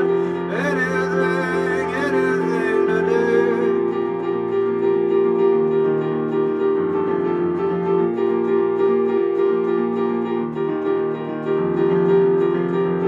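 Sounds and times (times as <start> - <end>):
keyboard playing held chords: 0.0 - 13.0.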